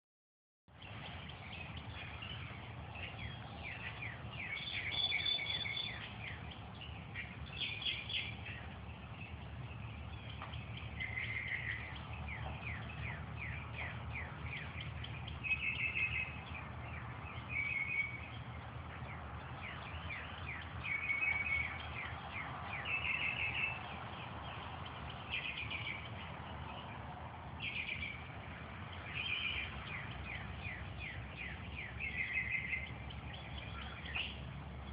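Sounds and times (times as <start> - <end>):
low steady rumble: 0.7 - 34.9
songbirds singing: 0.7 - 34.9.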